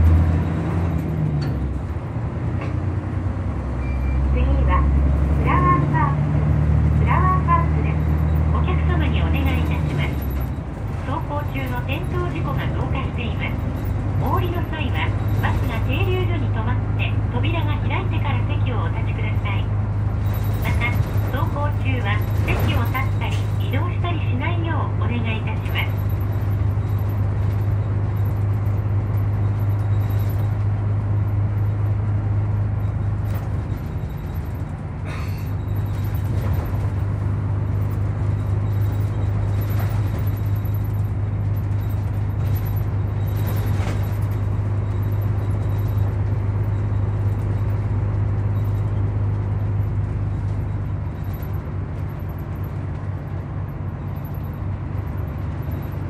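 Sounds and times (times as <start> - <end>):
diesel bus engine drone: 0.0 - 56.0
road noise: 0.0 - 56.0.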